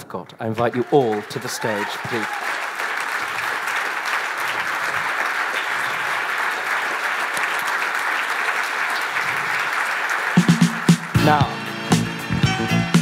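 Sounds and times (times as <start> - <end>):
audience applauding: 0.4 - 11.4.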